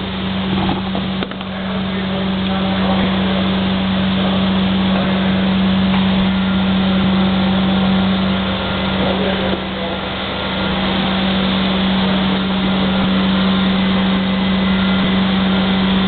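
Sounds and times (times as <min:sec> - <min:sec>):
printing press humming: 0:00.0 - 0:16.0.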